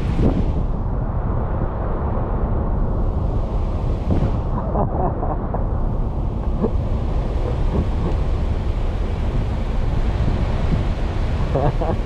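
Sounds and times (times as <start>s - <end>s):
low engine rumble: 0.0s - 12.0s
wind noise on microphone: 0.0s - 12.0s.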